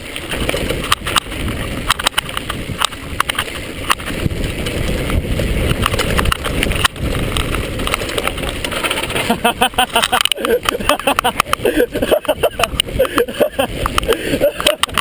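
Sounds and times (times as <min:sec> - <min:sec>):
bike rattling and knocking: 0:00.0 - 0:15.0
rumble of bike tyres on dirt: 0:00.0 - 0:15.0
wind on microphone: 0:00.0 - 0:15.0.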